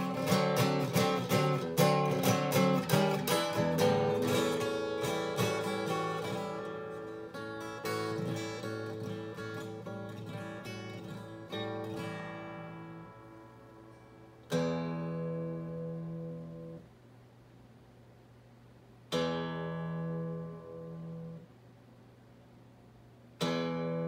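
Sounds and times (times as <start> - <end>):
acoustic guitar chords strummed: 0.0 - 16.9, 19.1 - 21.6, 23.4 - 24.0.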